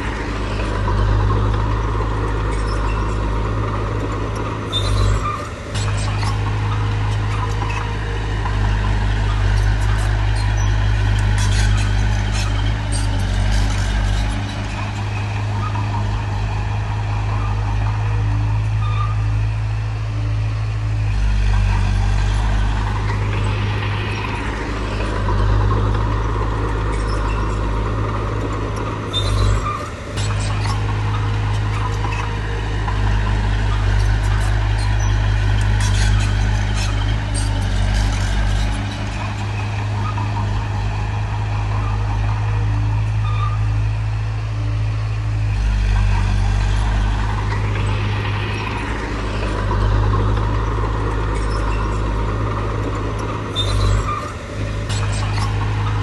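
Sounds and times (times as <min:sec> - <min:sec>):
diesel engine drone: 0:00.0 - 0:56.0
machinery clanks and rattles: 0:00.0 - 0:56.0.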